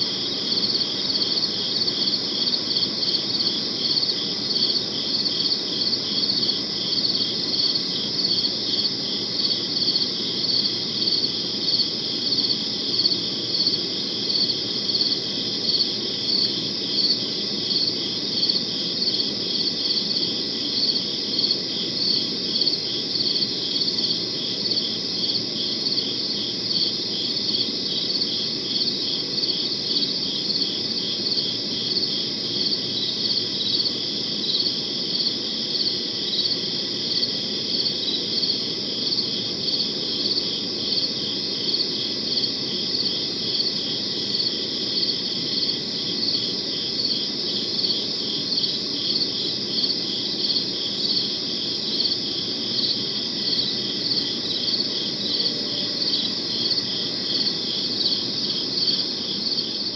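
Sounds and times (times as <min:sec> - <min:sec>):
crickets chirping: 0:00.0 - 0:59.9
low steady background noise: 0:00.0 - 0:59.9.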